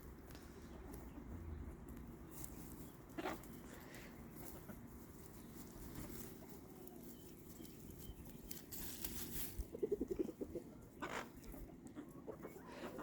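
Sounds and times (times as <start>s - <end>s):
chickens clucking: 0.0s - 13.0s
rustle: 0.0s - 13.0s.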